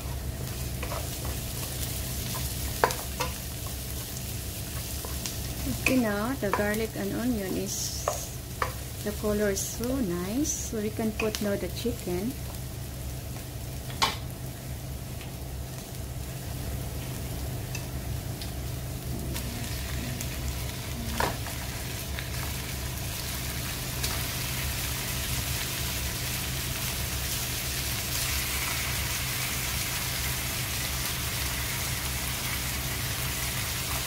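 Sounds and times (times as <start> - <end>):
food sizzling in oil: 0.0 - 34.0
steady low hum: 0.0 - 34.0.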